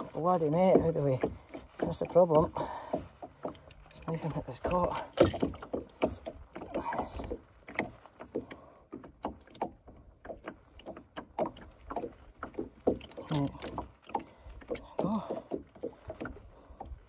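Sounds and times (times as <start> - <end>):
tackle knocking on plastic boat: 0.0 - 17.0.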